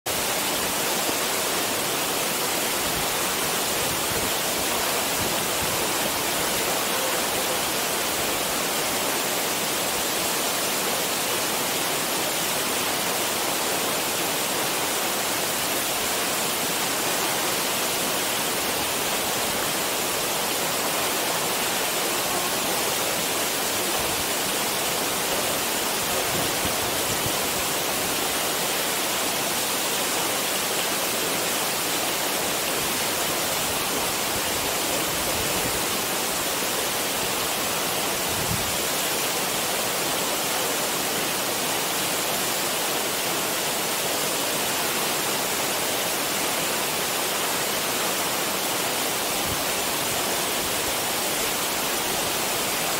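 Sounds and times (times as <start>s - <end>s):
waterfall rushing: 0.1s - 52.9s.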